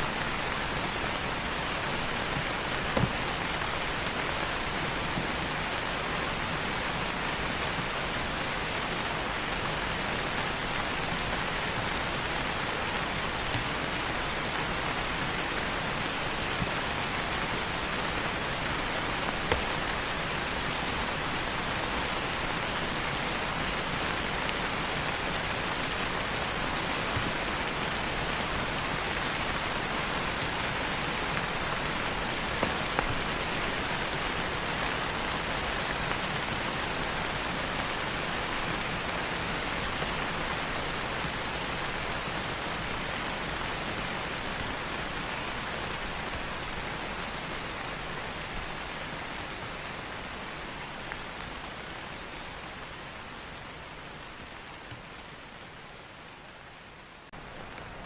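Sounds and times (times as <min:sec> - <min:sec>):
individual raindrops: 0:00.0 - 0:58.0
rain falling on leaves: 0:00.0 - 0:58.0.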